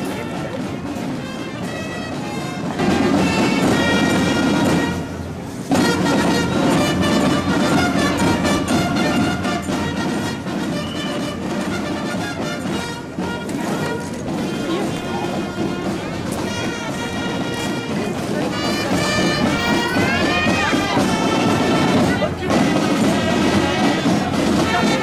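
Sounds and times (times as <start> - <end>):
marching brass band with drums: 0.0 - 25.0.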